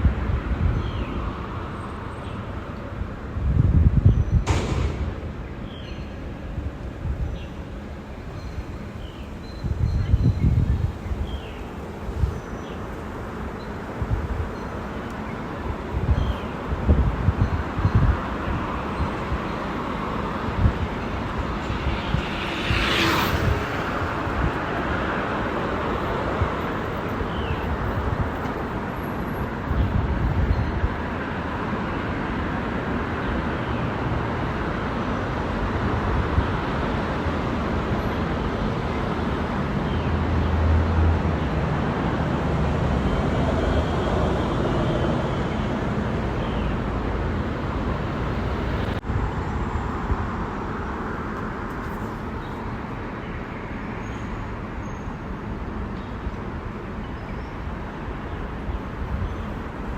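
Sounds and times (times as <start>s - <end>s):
bicycle road and wind rumble: 0.0s - 59.9s
motor traffic: 0.0s - 59.9s.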